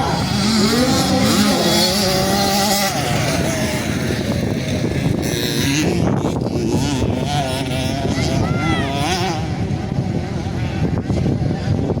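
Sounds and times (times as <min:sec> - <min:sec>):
two-stroke motocross engines revving: 0:00.0 - 0:12.0.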